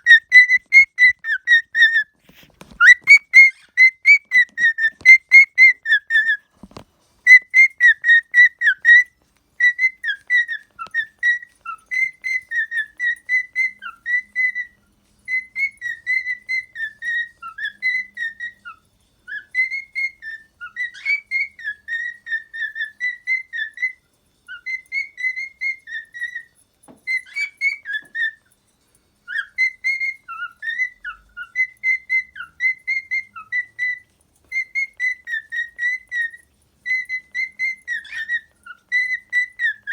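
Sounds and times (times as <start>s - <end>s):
cockatiel whistling: 0.0s - 6.5s, 7.2s - 28.5s, 29.2s - 39.9s.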